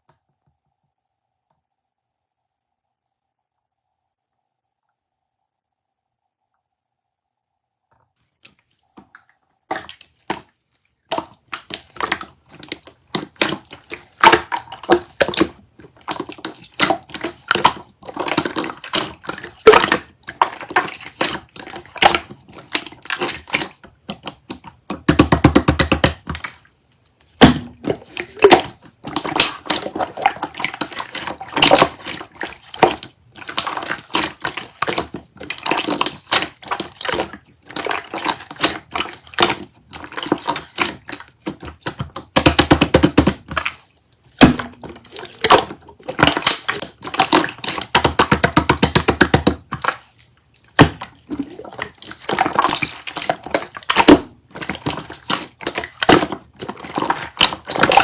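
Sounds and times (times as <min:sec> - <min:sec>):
water pouring and splashing: 0:08.3 - 0:58.0.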